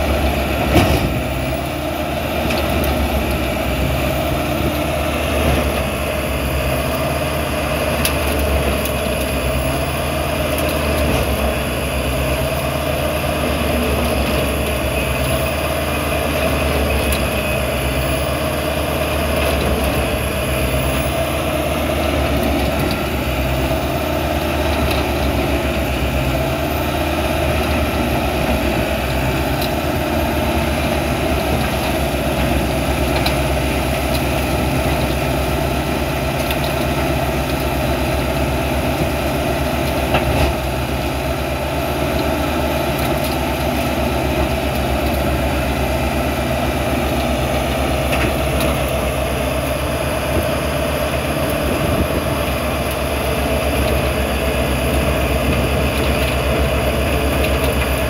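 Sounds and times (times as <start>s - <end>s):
shredder running under load: 0.0s - 58.0s.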